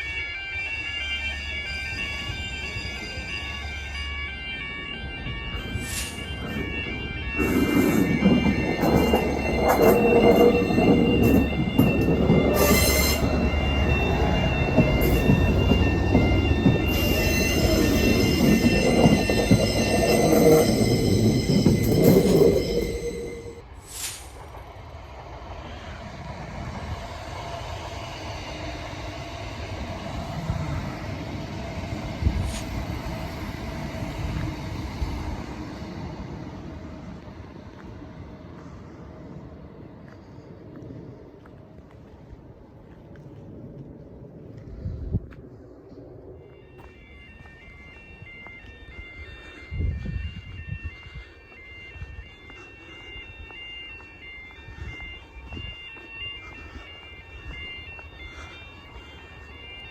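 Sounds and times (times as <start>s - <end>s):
crossing alarm tones: 0.0s - 59.9s
train wheels rumbling and squealing: 0.0s - 59.9s.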